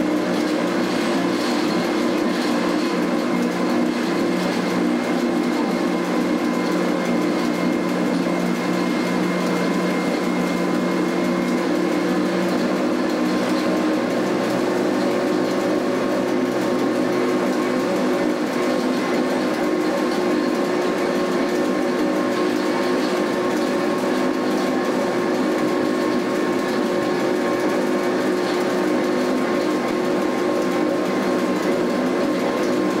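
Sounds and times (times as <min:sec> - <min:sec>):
traction motor whine: 0:00.0 - 0:33.0.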